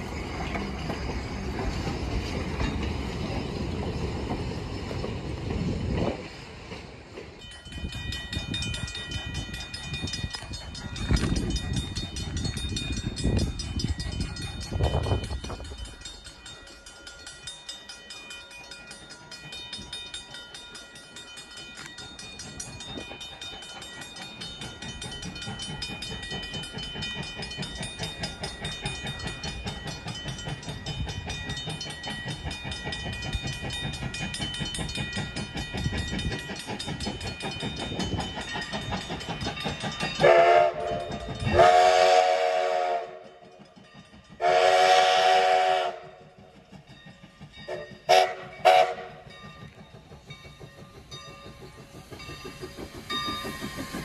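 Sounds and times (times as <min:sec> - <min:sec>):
train coaches rumbling over rails: 0:00.0 - 0:54.0.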